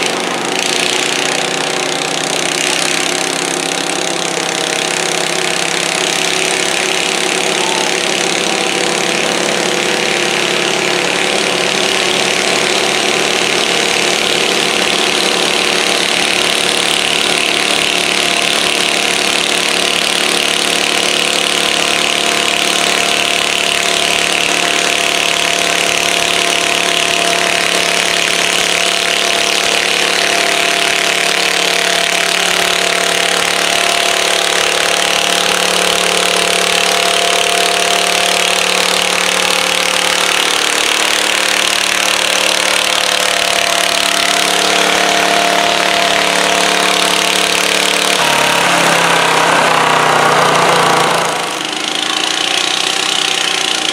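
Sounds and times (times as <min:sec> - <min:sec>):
garden tractor engine running hard: 0:00.0 - 0:53.9.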